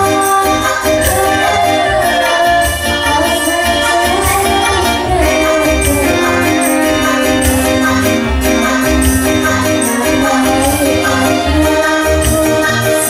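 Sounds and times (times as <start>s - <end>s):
amplified stage music: 0.0s - 13.0s
women singing into microphones: 0.0s - 13.0s
steady percussion beat: 1.0s - 12.5s.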